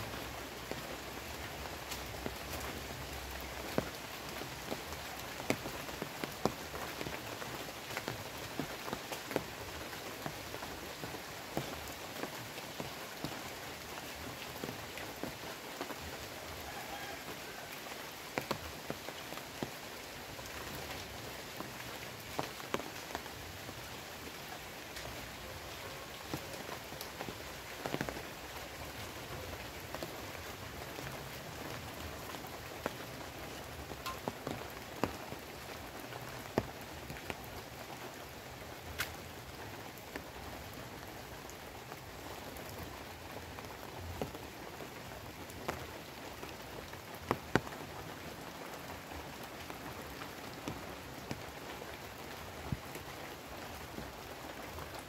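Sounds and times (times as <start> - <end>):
raindrops ticking close by: 0.0 - 55.0
steady rain hiss: 0.0 - 55.0.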